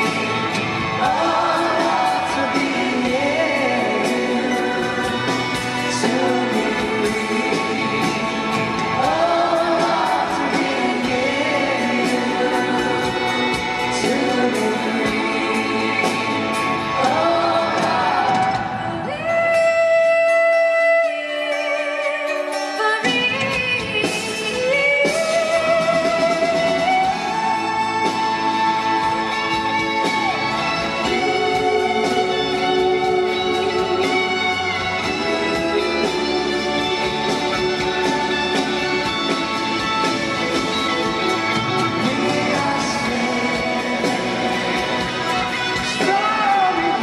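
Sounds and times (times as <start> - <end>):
singers in harmony: 0.0 - 19.7, 24.0 - 47.0
band playing: 0.0 - 47.0.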